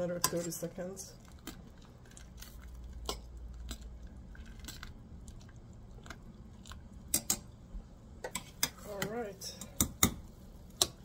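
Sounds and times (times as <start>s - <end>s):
boiling water rumble: 0.0s - 11.0s.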